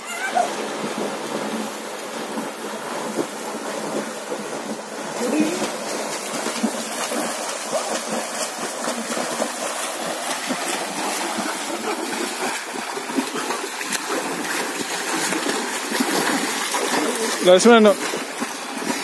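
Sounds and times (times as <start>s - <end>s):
swimmers splashing: 0.0s - 19.0s.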